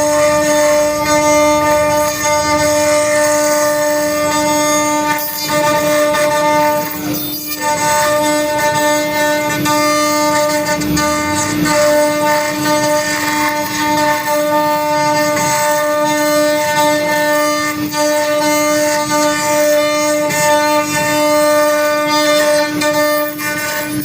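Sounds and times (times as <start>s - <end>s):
router spindle whining cutting wood: 0.0s - 24.0s.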